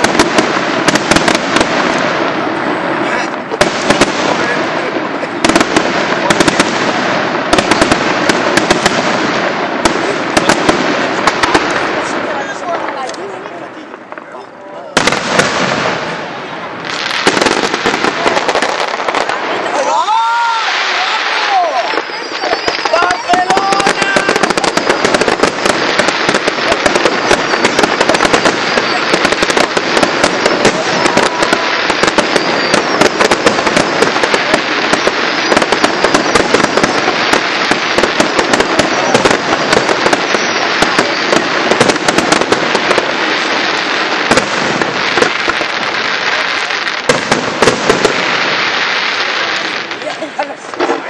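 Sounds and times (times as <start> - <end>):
fireworks crackling and banging: 0.0 - 51.0.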